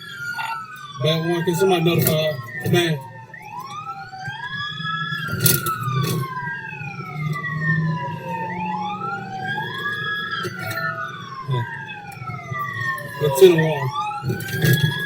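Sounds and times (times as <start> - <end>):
police sirens wailing: 0.0 - 15.0.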